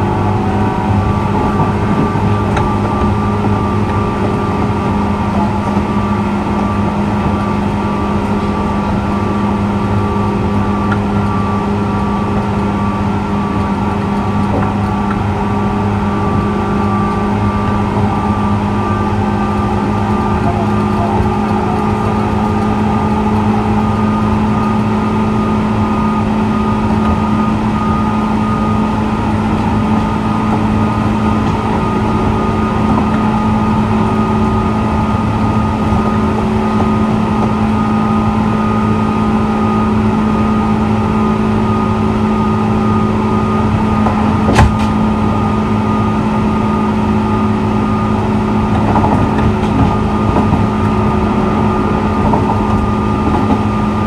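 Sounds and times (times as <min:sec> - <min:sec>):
electric train equipment humming: 0:00.0 - 0:54.0.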